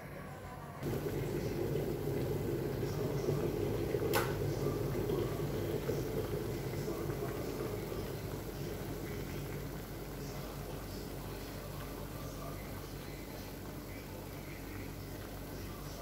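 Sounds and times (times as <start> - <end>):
pot boiling hard: 0.8 - 16.0.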